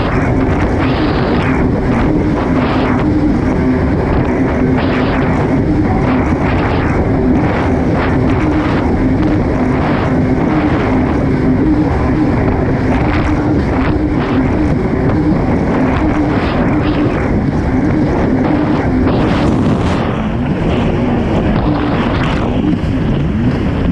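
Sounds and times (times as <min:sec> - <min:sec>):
jet ski engine running hard: 0:00.0 - 0:23.9
wind and water spray rushing: 0:00.0 - 0:23.9.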